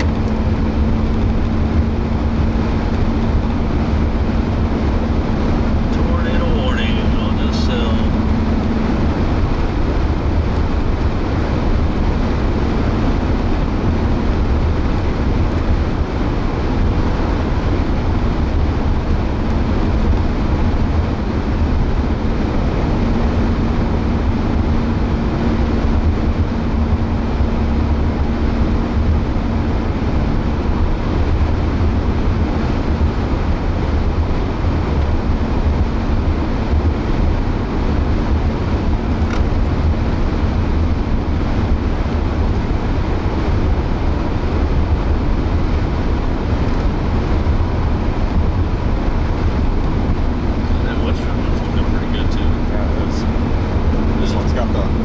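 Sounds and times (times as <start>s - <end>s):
tyres and engine rumble: 0.0s - 55.0s.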